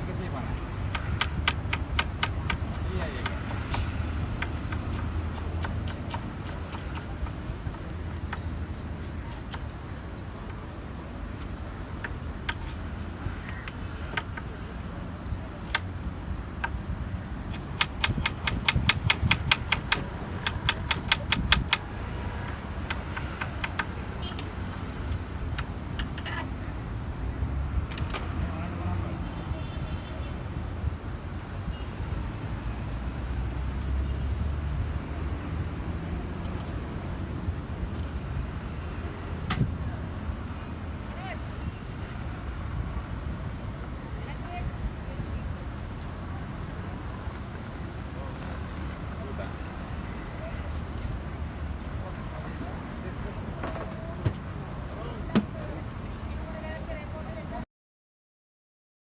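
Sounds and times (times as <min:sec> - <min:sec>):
traffic rumble: 0:00.0 - 0:57.6.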